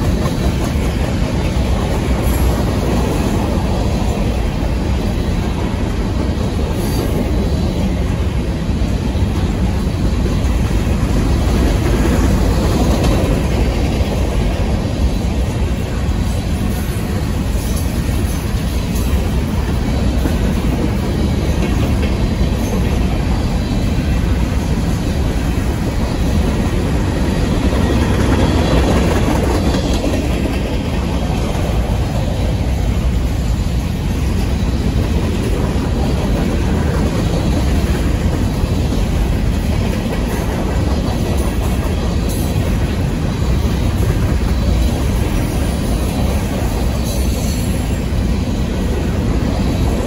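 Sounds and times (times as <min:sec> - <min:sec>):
freight train rumbling past: 0:00.0 - 0:50.0.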